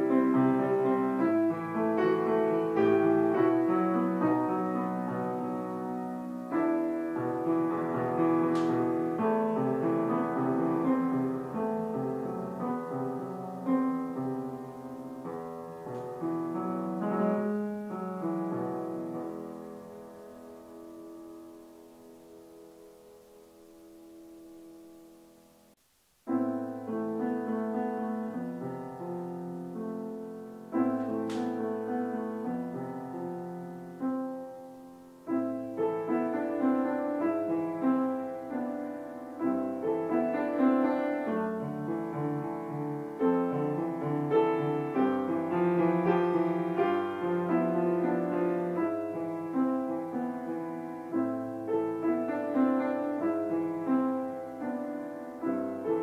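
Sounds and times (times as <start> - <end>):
piano chords ringing: 0.0 - 56.0.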